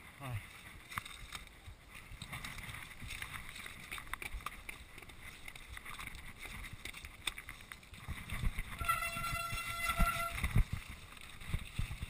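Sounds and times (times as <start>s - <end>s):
bike rattling over loose stones: 0.0s - 12.0s.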